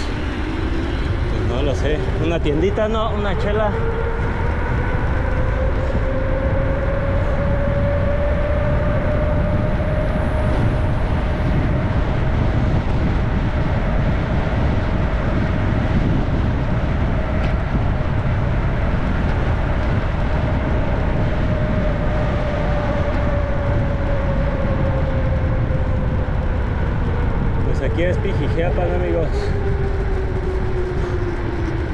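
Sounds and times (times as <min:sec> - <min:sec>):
road noise: 0:00.0 - 0:31.9
steady whine: 0:00.0 - 0:31.9
wind buffeting microphone: 0:00.0 - 0:31.9.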